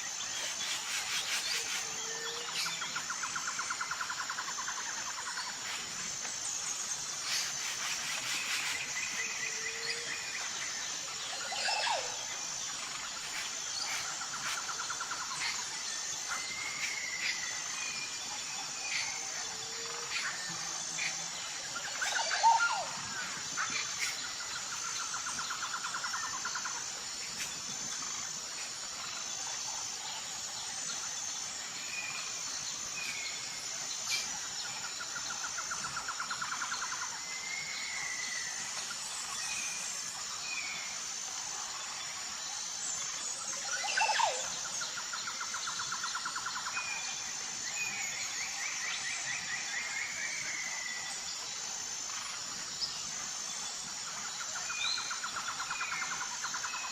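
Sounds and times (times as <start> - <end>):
high-pitched insect trill: 0.0 - 56.9.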